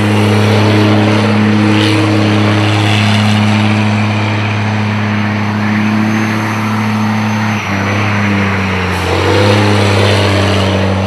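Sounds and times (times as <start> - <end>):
truck diesel engine at high revs: 0.0 - 11.0.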